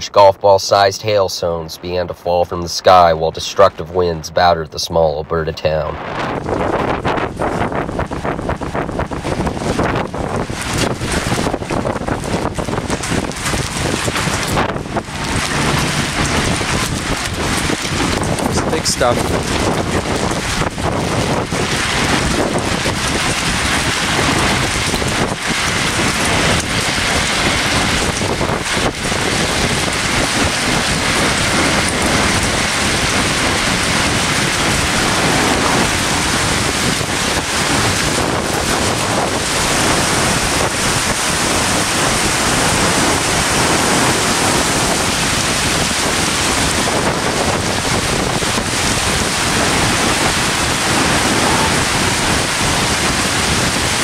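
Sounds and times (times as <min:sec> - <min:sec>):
wind gusting on microphone: 0:00.0 - 0:54.0
hailstones pelting pavement: 0:06.4 - 0:54.0.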